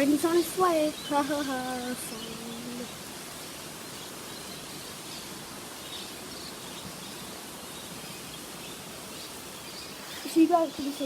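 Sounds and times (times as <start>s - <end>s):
faint bird chirps: 0.0s - 11.0s
wind and rain: 0.0s - 11.0s.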